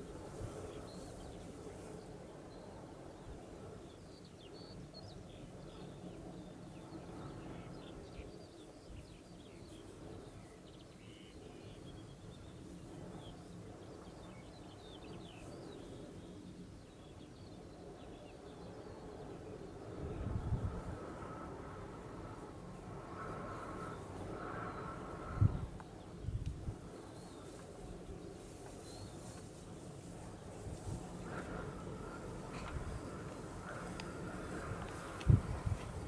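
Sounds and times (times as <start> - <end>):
small birds chirping: 0.0 - 20.9, 22.7 - 36.0
faint low outdoor rumble: 0.0 - 36.0.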